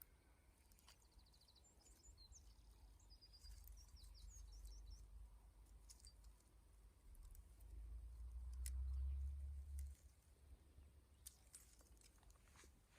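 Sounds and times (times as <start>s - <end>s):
faint birdsong: 0.0s - 12.9s.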